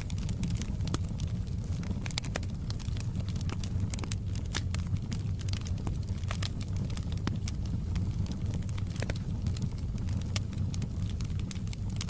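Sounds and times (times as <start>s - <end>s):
fire crackling and popping: 0.0s - 12.0s
fire rumbling: 0.0s - 12.0s.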